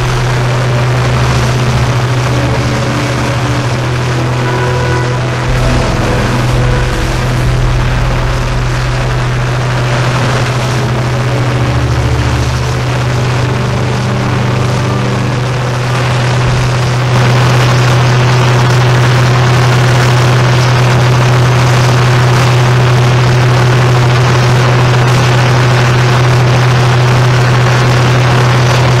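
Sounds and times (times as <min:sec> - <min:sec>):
combine harvester engine and auger: 0:00.0 - 0:29.0.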